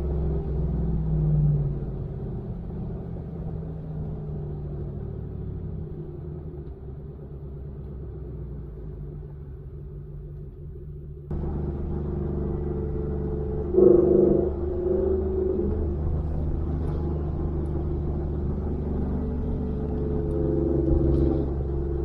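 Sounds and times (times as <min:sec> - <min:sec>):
pickup truck engine drone: 0:00.0 - 0:22.0.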